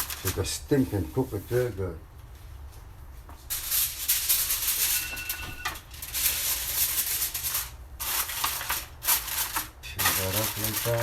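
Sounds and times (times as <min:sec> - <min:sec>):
aluminium foil crinkling: 0:00.0 - 0:01.8, 0:03.5 - 0:11.0.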